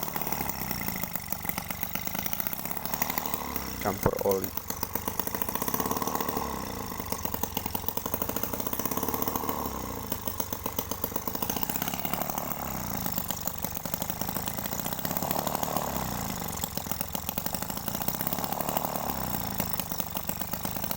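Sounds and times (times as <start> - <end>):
small two-stroke engine running: 0.0 - 20.9.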